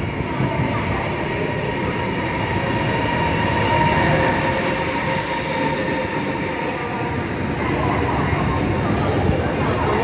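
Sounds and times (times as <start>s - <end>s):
electric train rolling past: 0.0s - 10.0s.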